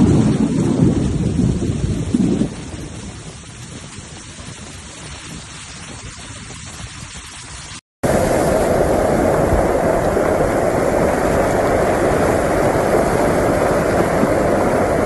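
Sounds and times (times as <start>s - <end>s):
flash-flood torrent rushing: 0.0s - 15.0s
heavy rain: 0.0s - 15.0s
waterfall pouring: 0.0s - 15.0s.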